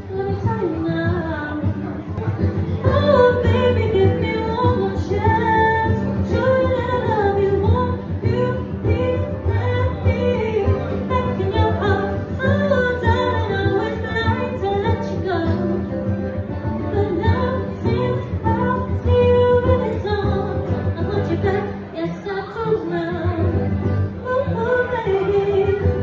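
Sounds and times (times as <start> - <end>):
woman singing into microphone: 0.0 - 26.0.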